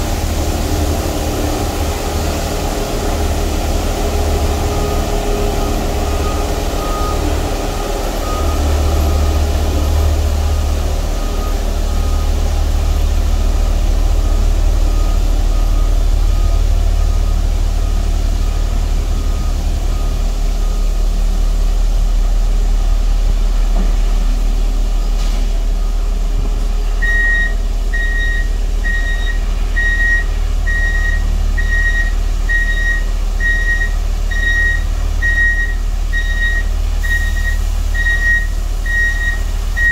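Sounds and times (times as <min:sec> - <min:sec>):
truck engine running: 0:00.0 - 0:39.9
reversing alarm beeping: 0:01.2 - 0:22.4, 0:26.9 - 0:39.9.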